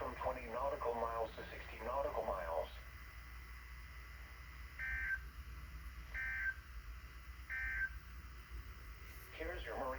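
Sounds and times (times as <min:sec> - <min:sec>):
faint hum: 0:00.0 - 0:09.9.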